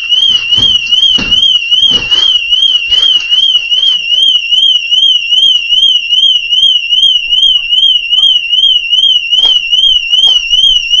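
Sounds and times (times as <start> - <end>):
car alarm siren warbling: 0.0 - 11.0.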